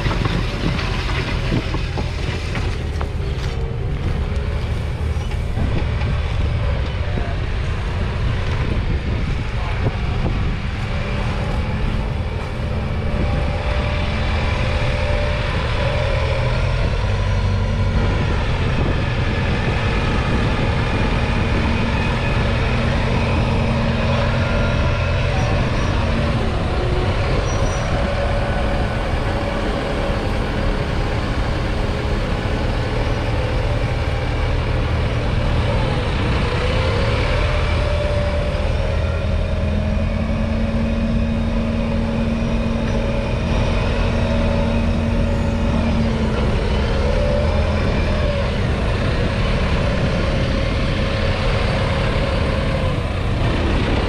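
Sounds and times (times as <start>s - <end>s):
tractor diesel engine passing: 0.0s - 54.0s.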